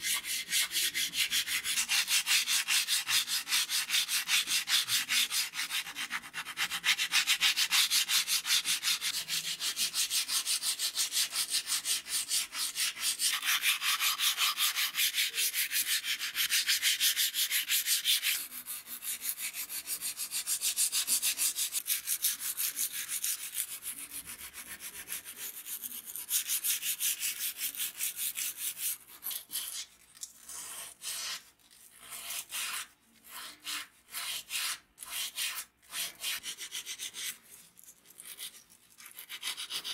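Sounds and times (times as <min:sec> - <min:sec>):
hand sanding steel blade: 0:00.0 - 0:39.9.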